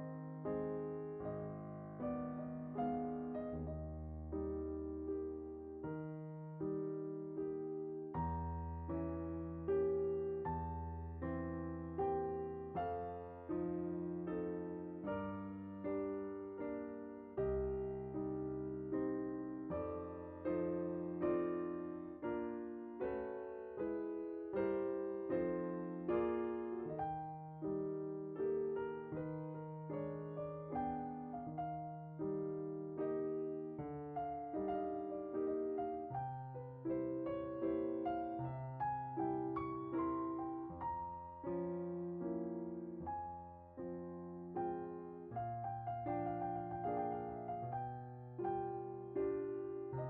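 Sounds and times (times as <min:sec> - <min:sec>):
electric piano music: 0:00.0 - 0:50.0.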